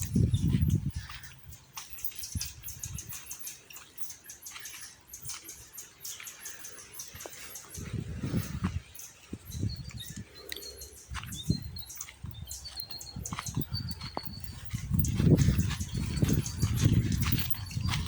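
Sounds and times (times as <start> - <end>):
dry leaves and twigs crackling: 0.0 - 18.0.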